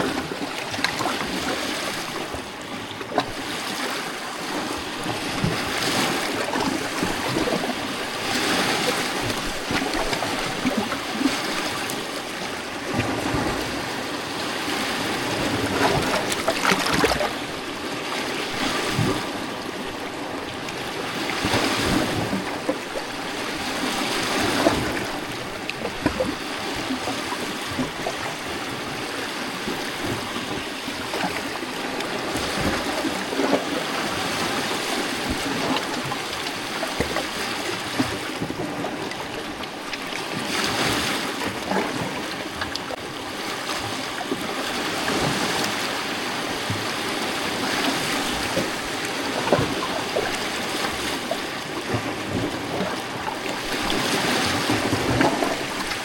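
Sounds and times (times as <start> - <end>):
waves lapping on rocks: 0.0 - 56.0.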